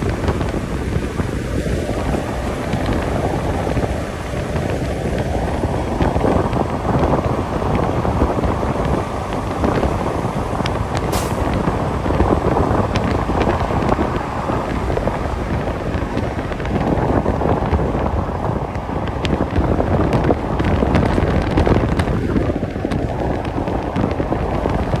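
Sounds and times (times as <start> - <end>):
truck road and wind noise: 0.0 - 25.0.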